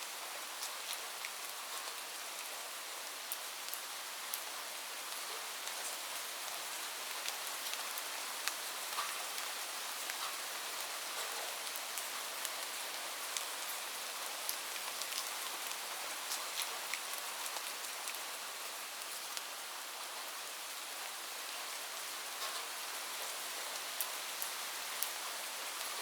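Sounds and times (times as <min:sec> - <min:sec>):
light rain hiss: 0:00.0 - 0:26.0.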